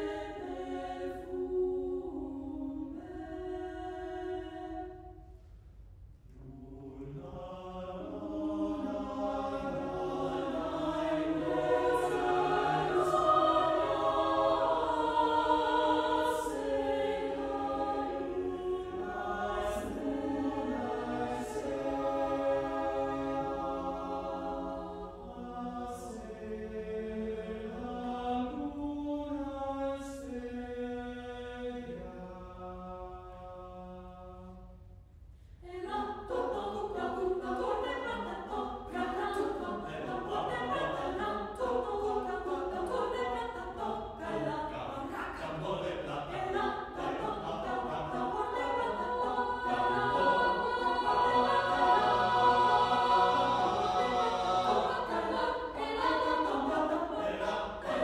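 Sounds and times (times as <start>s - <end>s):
mixed choir singing a cappella: 0.0s - 5.3s, 6.4s - 34.8s, 35.6s - 58.0s.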